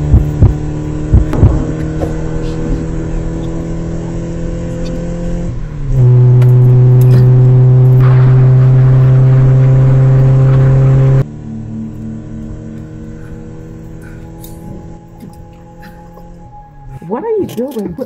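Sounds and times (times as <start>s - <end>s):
car engine hum: 0.0s - 18.0s.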